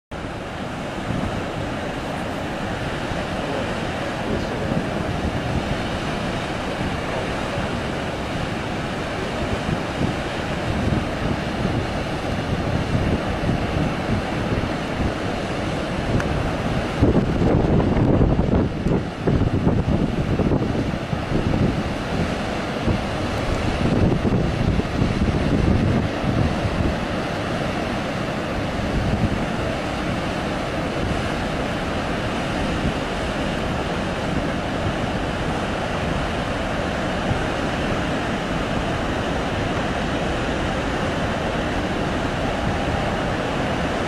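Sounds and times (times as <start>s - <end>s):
rushing water: 0.1s - 44.0s
wind buffeting microphone: 0.2s - 44.0s.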